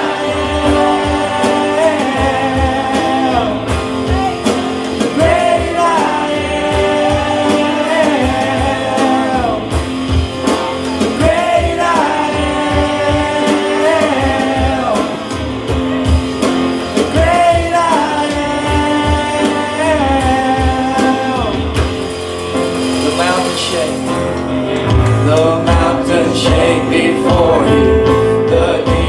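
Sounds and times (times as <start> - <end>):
steady drum beat: 0.0 - 29.0
worship band music: 0.0 - 29.0.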